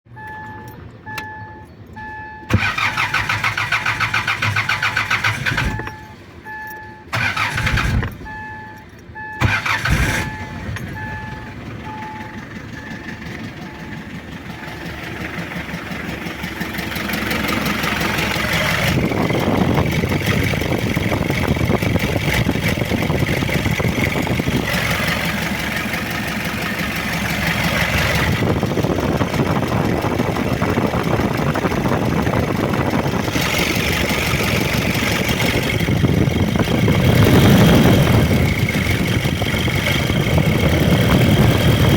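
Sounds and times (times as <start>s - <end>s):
diesel engine cranking: 0.1s - 41.9s
diesel engine running roughly: 2.5s - 6.1s, 7.1s - 8.4s, 9.4s - 41.9s.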